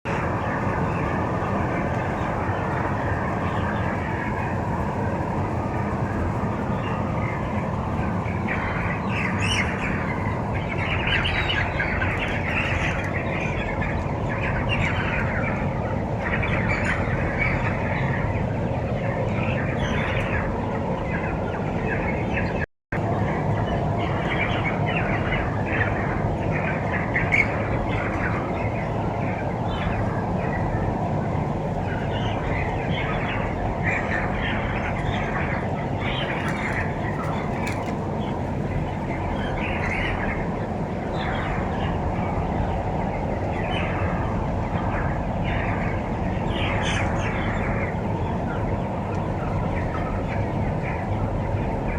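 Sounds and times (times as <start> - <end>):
poultry chirping and calling: 0.1 - 51.9.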